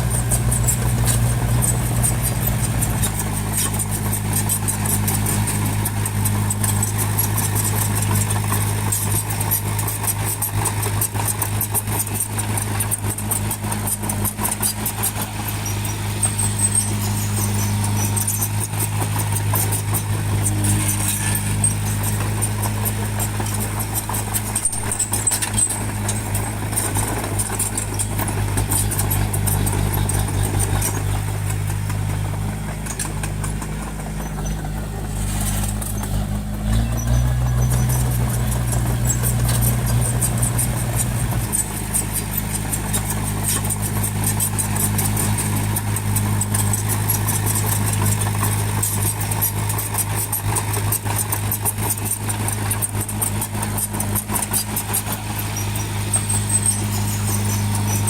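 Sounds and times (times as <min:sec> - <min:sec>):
bulldozer diesel engine clattering: 0:00.0 - 0:58.0.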